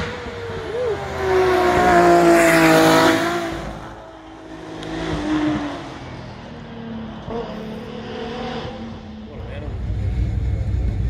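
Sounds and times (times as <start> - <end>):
faint car engine: 0.0 - 11.0
race car passing at full throttle: 0.0 - 11.0.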